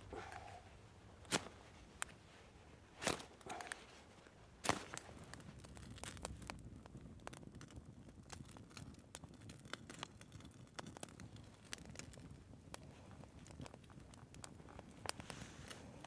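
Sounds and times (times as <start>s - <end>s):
campfire crackling: 0.0s - 16.0s
sharp pops of fire: 1.2s - 2.2s, 2.9s - 16.0s.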